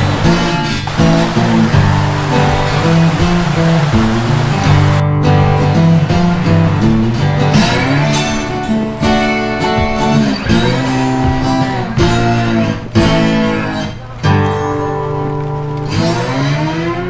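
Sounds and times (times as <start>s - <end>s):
guitar playing chords: 0.0s - 17.0s.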